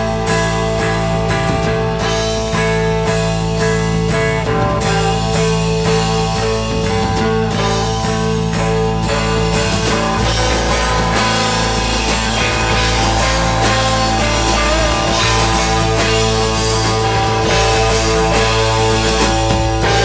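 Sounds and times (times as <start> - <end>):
guitars sustained chords: 0.0 - 20.0
steady drum beat: 0.0 - 20.0.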